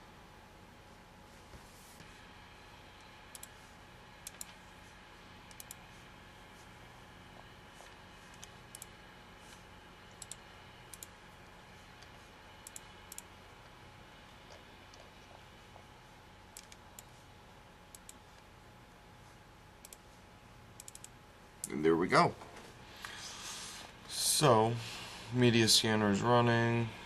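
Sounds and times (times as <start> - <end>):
faint room hum: 0.0 - 27.0.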